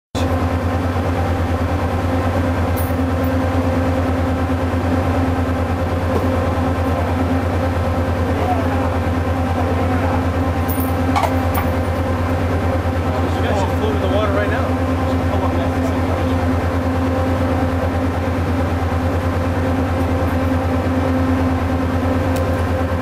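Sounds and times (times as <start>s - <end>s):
ship engines droning: 0.2s - 23.0s.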